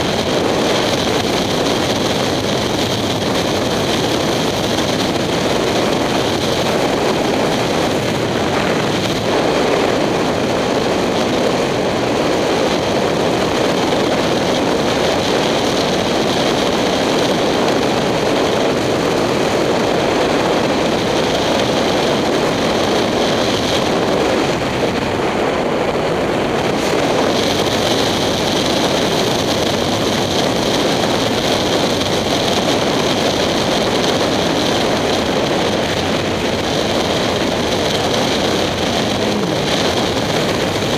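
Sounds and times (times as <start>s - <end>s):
motorcycle engine running: 0.0s - 25.0s, 26.6s - 40.9s
wind rush over helmet camera: 0.0s - 40.9s.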